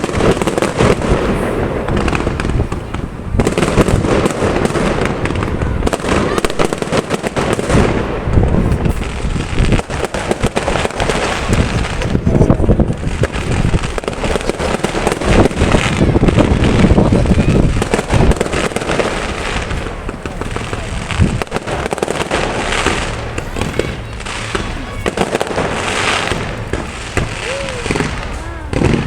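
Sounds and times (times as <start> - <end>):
firework crackling: 0.0 - 29.0
firework shells booming: 0.0 - 29.0.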